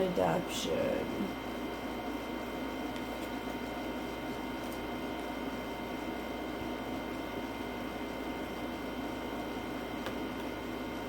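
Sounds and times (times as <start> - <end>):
faint constant whines: 0.0 - 11.0
steady background hum and hiss: 0.0 - 11.0.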